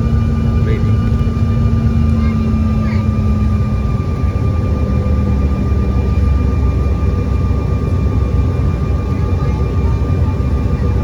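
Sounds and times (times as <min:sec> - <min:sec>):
jet engine drone in cabin: 0:00.0 - 0:11.0
low hum: 0:00.0 - 0:11.0.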